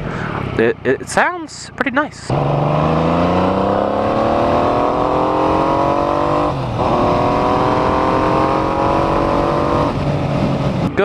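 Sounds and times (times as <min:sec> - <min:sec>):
motorcycle engine accelerating: 0:02.2 - 0:11.0.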